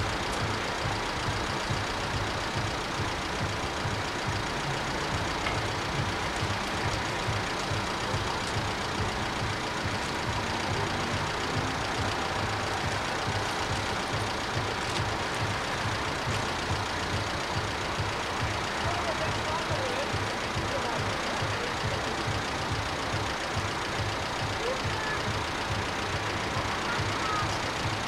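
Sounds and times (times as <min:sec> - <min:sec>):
level-crossing warning bells ringing: 0:00.0 - 0:28.0.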